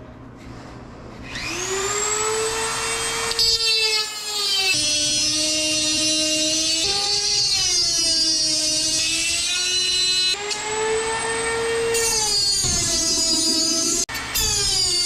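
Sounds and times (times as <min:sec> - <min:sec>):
rotary tool cutting metal: 0:01.4 - 0:15.0.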